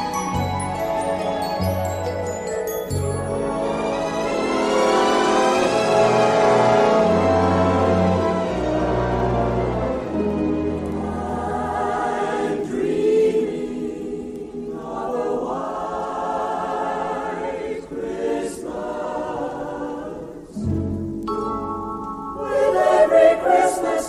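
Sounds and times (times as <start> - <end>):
choir singing slow chords: 3.1 - 24.0.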